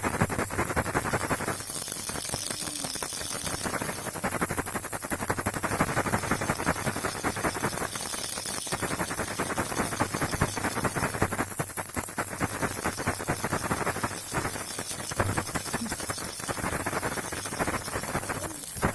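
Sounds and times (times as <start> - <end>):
baby rattle clicking: 0.0 - 18.9.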